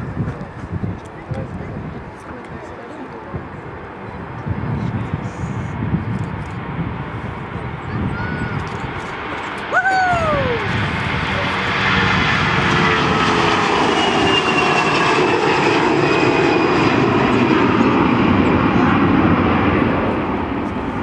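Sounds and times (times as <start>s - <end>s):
airliner engines whining: 0.0s - 21.0s.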